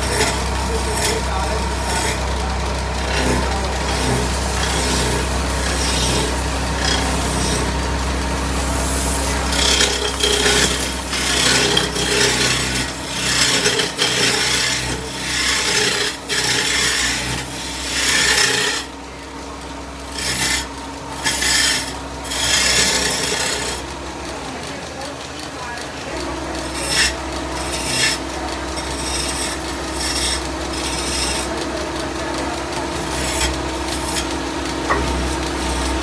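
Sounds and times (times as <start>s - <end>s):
chisel scraping turning wood: 0.0s - 18.9s, 20.1s - 24.0s, 26.5s - 36.0s
low motor hum: 0.0s - 36.0s.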